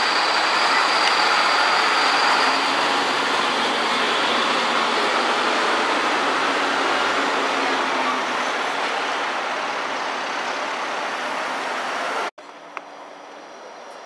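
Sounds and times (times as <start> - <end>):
light-rail tram running: 0.0 - 14.0.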